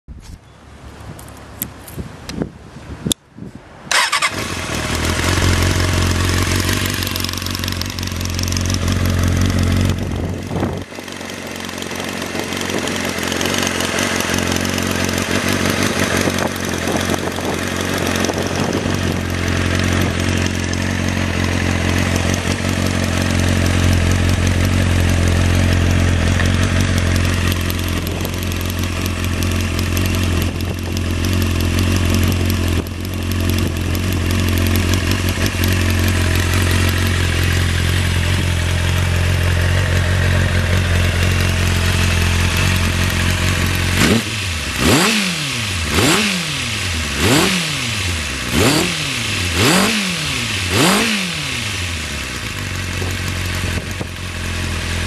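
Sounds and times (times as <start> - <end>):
motorcycle engine starting and idling: 3.8 - 55.0.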